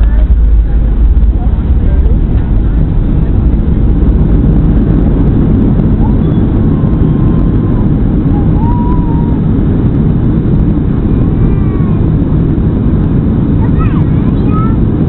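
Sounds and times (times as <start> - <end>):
jet engine cabin rumble: 0.0 - 15.0
rushing air: 0.0 - 15.0.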